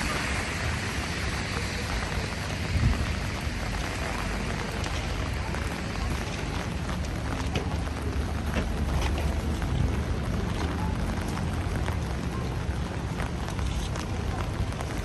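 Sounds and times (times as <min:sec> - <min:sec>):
rain falling on street: 0:00.0 - 0:15.0.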